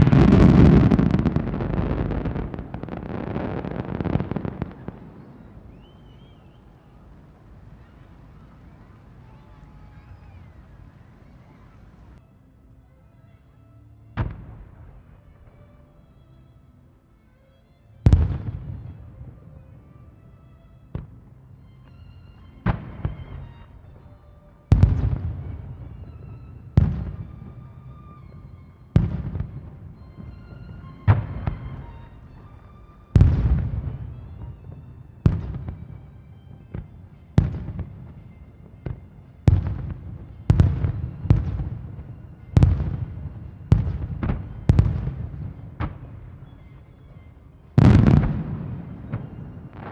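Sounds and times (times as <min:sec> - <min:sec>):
fireworks bursting with echo: 0:00.0 - 0:12.2, 0:18.0 - 0:20.0, 0:20.9 - 0:49.9.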